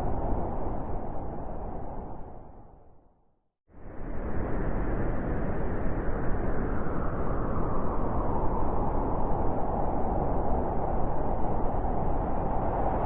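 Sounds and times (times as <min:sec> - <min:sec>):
blizzard wind blowing: 0:00.0 - 0:03.0, 0:03.7 - 0:13.0.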